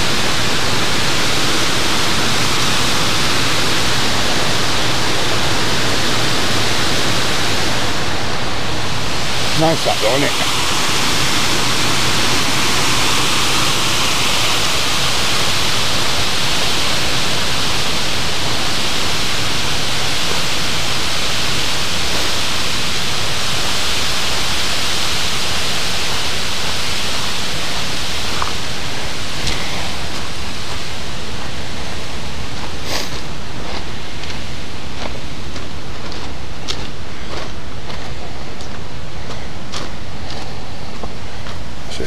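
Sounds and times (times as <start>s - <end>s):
water rushing over weir: 0.0s - 34.4s.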